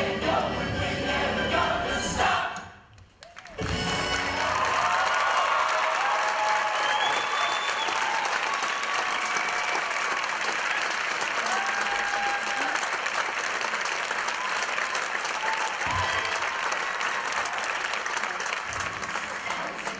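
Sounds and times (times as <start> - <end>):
audience applauding: 3.0 - 19.9
people cheering: 3.2 - 19.9.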